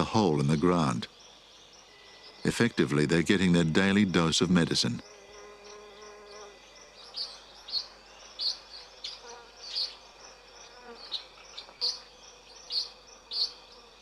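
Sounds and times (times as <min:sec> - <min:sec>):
faint insect background: 0:00.0 - 0:14.0.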